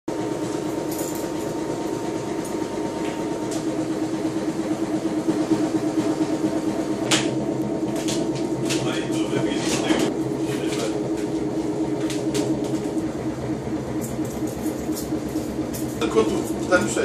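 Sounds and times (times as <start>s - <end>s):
train machinery hum: 0.1s - 17.0s.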